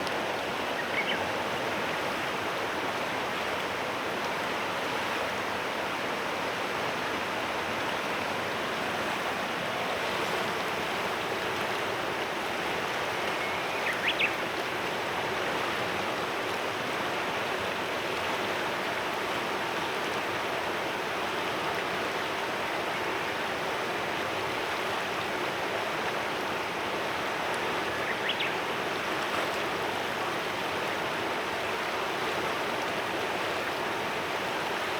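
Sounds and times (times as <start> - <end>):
river flowing: 0.0 - 34.9.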